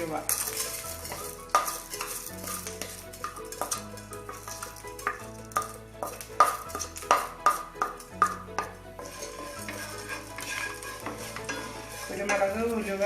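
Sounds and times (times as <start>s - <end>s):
soft background music: 0.0s - 13.0s
spoon stirring roasting spices: 0.0s - 13.0s
spoon clinking against pan: 0.3s - 12.5s.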